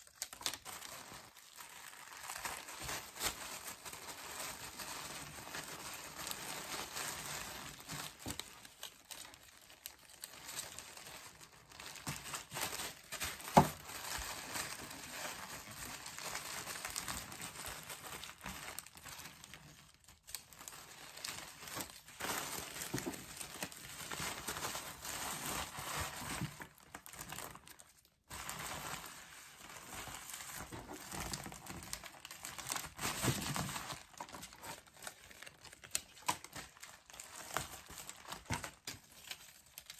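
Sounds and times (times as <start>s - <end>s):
tissue paper crinkling: 0.0s - 39.9s.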